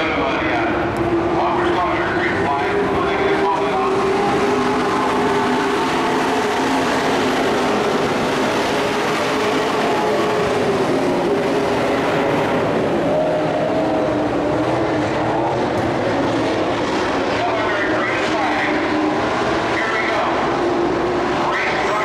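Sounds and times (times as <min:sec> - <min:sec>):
race truck engines droning: 0:00.0 - 0:22.0.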